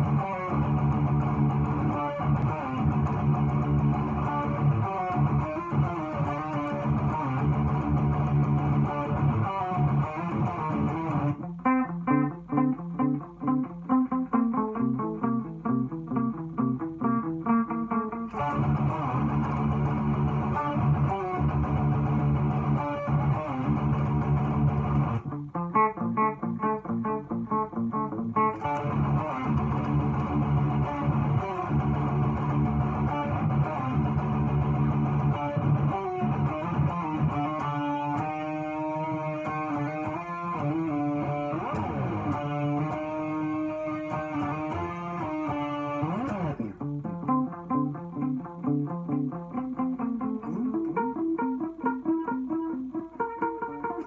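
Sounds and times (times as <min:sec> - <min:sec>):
electric guitar metal riff: 0:00.0 - 0:54.0.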